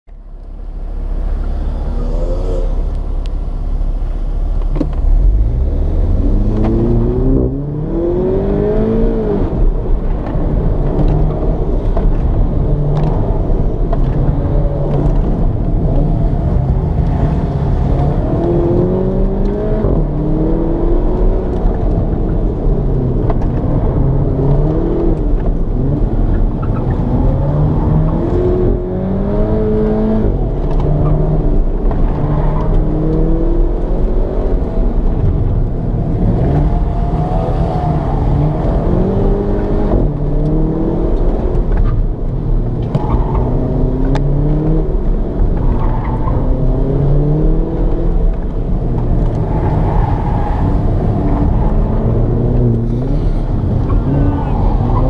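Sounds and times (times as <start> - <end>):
car engine revving: 0.3 - 55.0.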